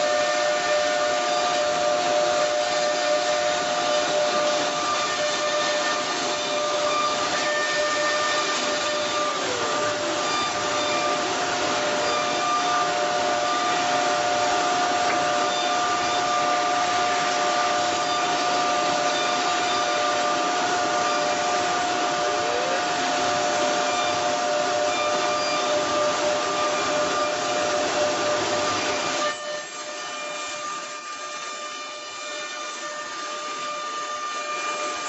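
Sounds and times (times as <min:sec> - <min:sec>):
cnc router whine: 0:00.0 - 0:35.0
rushing hiss: 0:01.1 - 0:29.8.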